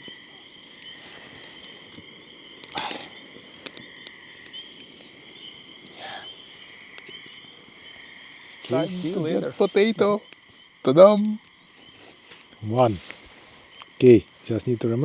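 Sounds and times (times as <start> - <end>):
trilling animal chorus: 0.0 - 15.0.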